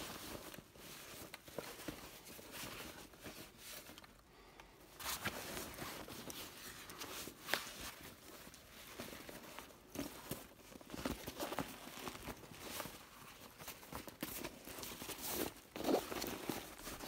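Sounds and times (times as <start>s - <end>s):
bag fabric rustling: 0.0s - 4.3s, 4.9s - 17.0s.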